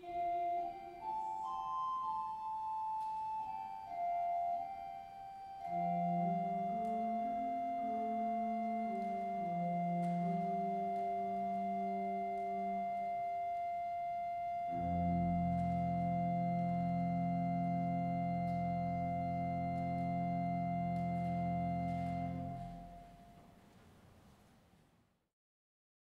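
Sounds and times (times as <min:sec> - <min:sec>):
church organ chord: 0:00.0 - 0:23.5.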